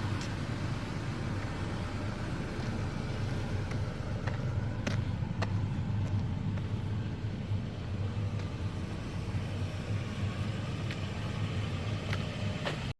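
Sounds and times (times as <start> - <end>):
vehicle engine low rumble: 0.0 - 12.9.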